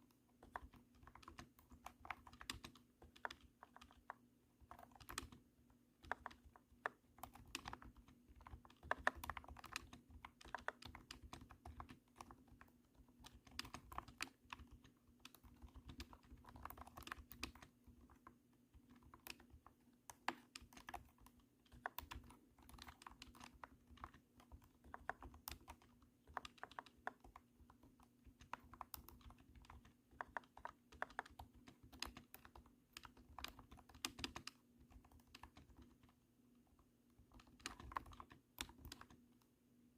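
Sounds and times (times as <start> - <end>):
thunky keyboard keystrokes: 0.0 - 36.2, 37.2 - 39.3.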